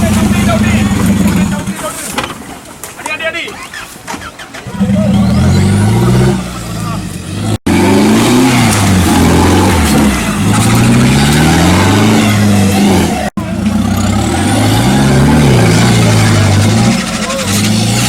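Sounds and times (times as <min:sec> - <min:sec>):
off-road engines revving: 0:00.0 - 0:02.4, 0:03.5 - 0:18.0.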